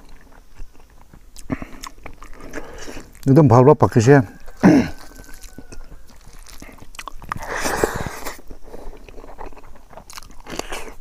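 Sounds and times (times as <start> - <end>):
wet mouth clicks: 0.0 - 3.3, 4.5 - 11.0
person chewing food: 0.0 - 3.4, 4.3 - 11.0.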